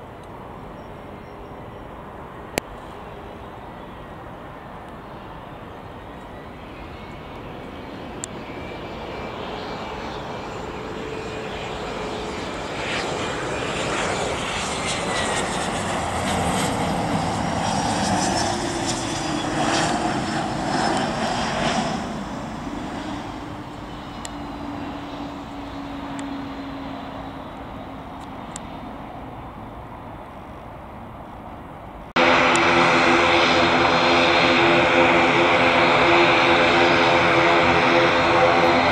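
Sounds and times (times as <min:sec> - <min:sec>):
jet engines rushing and whining: 0:00.0 - 0:38.9.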